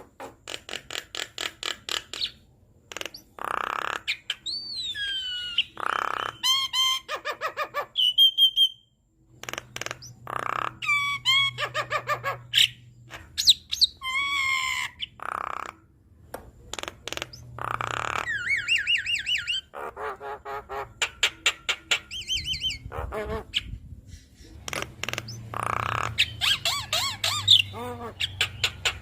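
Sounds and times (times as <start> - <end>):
bird singing varied song: 3.0 - 15.7, 16.7 - 29.0.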